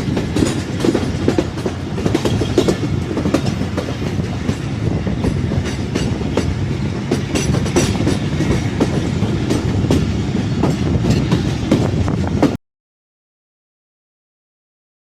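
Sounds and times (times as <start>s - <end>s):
train wheels rumbling: 0.0s - 12.6s
wheels clacking over rail joints: 0.0s - 12.6s.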